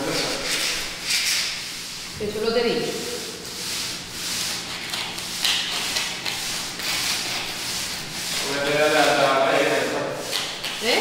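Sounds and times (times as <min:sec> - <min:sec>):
scraper rasping over concrete: 0:00.0 - 0:11.0.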